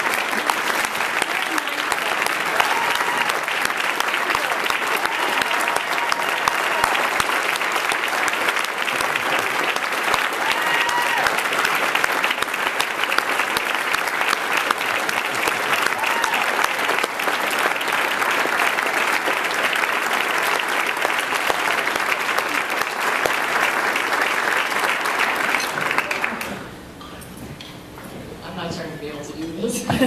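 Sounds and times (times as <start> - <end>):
audience clapping: 0.0 - 26.7.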